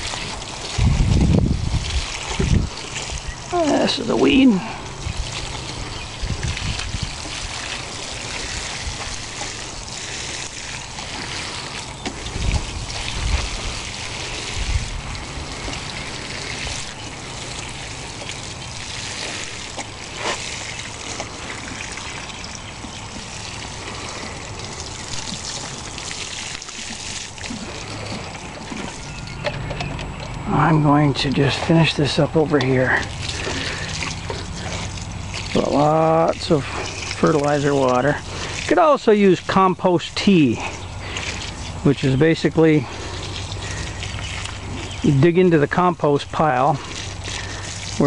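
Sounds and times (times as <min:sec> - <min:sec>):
water trickling onto soil: 0:00.0 - 0:48.0.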